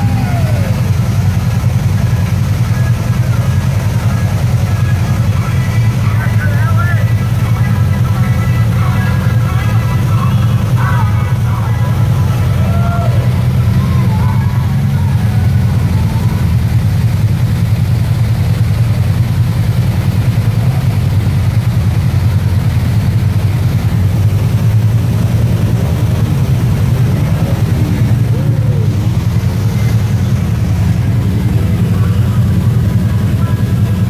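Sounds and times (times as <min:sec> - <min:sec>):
engine idling: 0:00.0 - 0:34.0
rushing creek: 0:00.0 - 0:34.0.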